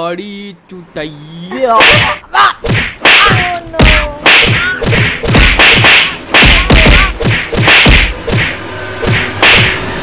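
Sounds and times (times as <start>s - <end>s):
cartoon slaps and whacks: 1.8s - 9.8s.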